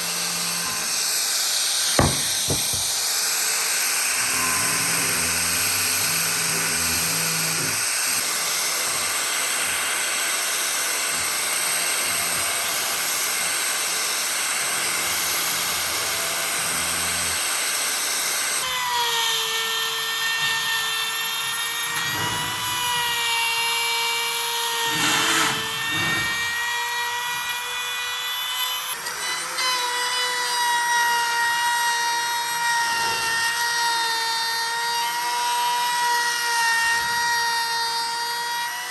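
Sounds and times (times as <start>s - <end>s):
power tool rasping wood: 0.0s - 38.9s.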